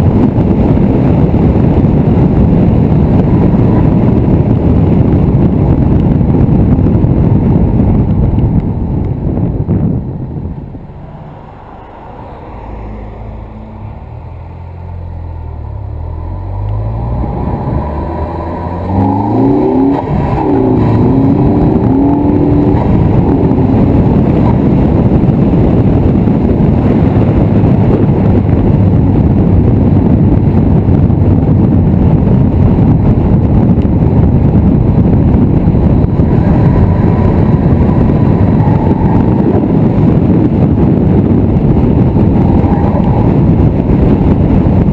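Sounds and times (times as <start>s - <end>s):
car engine accelerating: 0.0s - 44.9s
wind and road noise: 0.0s - 44.9s.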